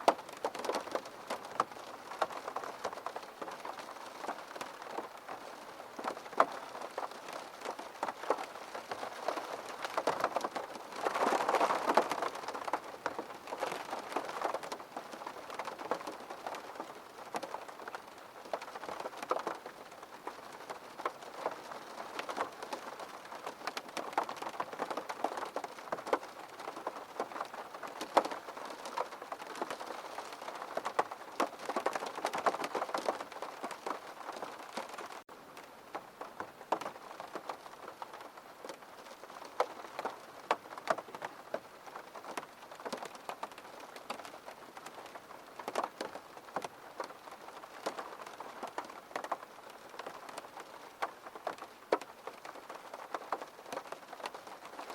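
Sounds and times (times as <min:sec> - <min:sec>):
raindrops ticking on glass: 0:00.0 - 0:35.3, 0:35.9 - 0:54.9.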